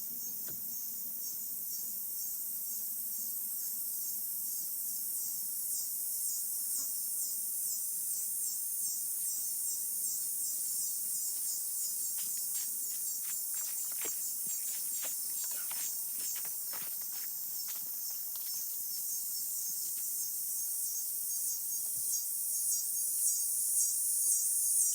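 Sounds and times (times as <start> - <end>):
crickets trilling: 0.1 - 24.9.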